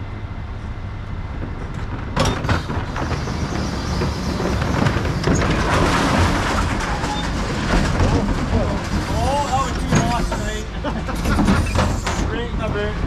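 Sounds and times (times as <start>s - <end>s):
bin lorry engine running: 0.0s - 13.0s
sudden clatter: 1.4s - 12.8s.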